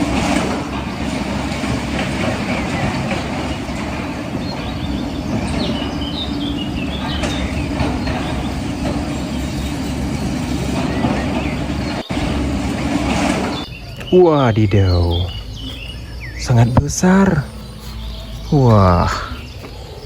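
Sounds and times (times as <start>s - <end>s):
large engine rumbling: 0.0s - 20.0s.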